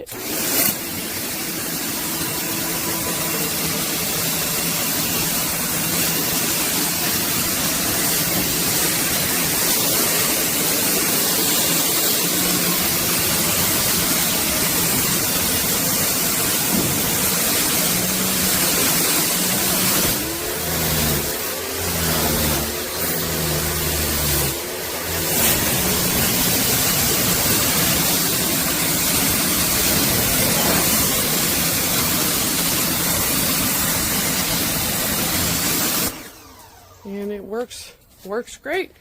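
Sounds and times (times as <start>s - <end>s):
pressure washer spray hissing: 0.0s - 36.2s.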